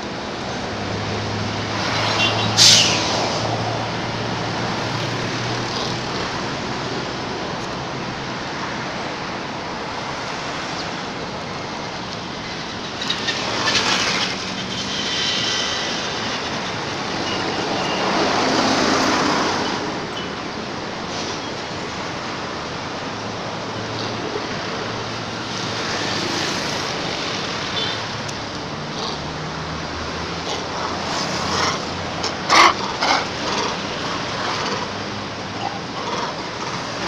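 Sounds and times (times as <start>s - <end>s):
engine hum: 0.0s - 37.0s
traffic noise: 0.0s - 37.0s.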